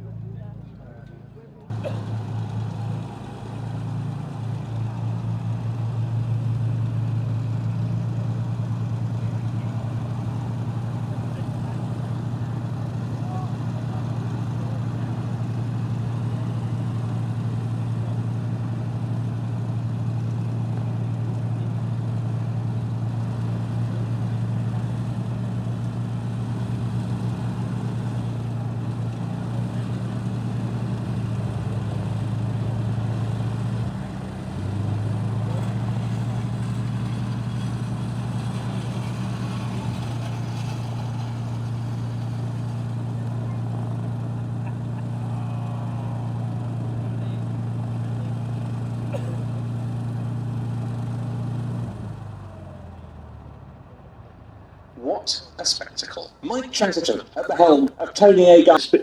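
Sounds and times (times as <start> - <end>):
aircraft piston engines droning: 0.9 - 52.8, 55.0 - 59.0.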